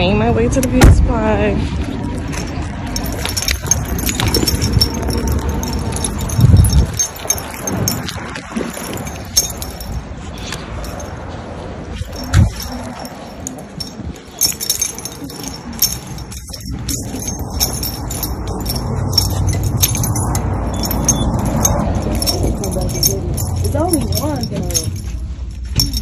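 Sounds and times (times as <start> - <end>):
steady low rumble: 0.0 - 26.0
small metal objects jangling: 2.0 - 26.0.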